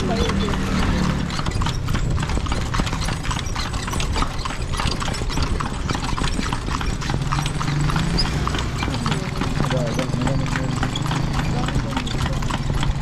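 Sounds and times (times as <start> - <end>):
carriage rolling rumble: 0.0 - 13.0
horse hooves clip-clopping: 0.0 - 13.0.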